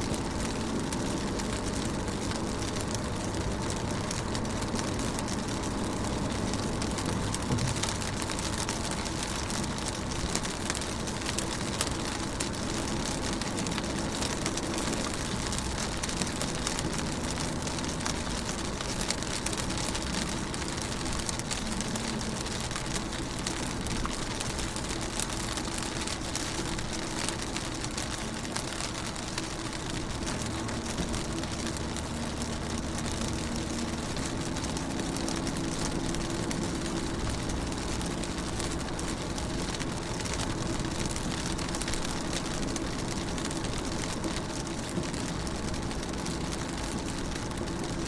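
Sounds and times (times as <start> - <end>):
rain on car window: 0.0 - 48.0.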